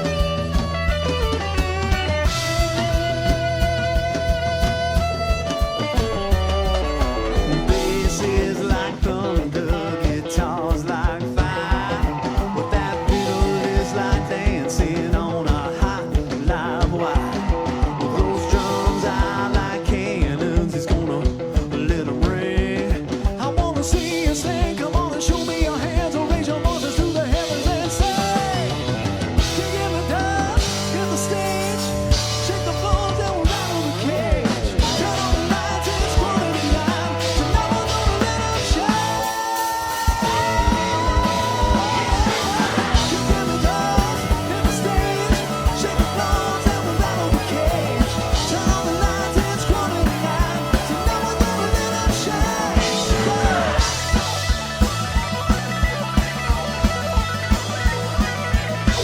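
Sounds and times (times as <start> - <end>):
lead guitar bending pitch: 0.0 - 20.5, 26.6 - 59.0
live country band playing: 0.0 - 59.0.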